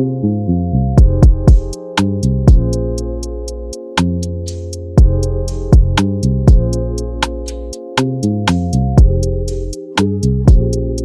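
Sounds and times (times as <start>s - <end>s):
hip-hop beat with synth chords: 0.9s - 11.0s.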